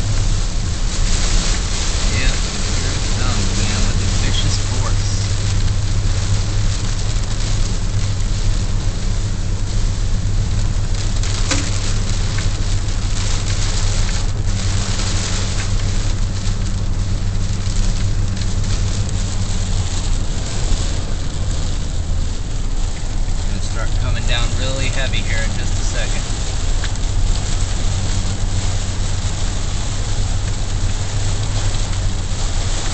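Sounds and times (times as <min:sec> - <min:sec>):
engine and tyres rumble: 0:00.0 - 0:32.9
rain hitting a car: 0:00.0 - 0:32.9.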